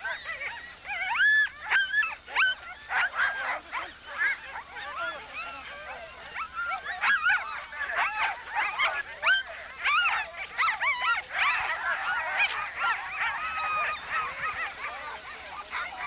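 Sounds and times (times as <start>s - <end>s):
sled dogs yelping and whining: 0.0s - 16.0s.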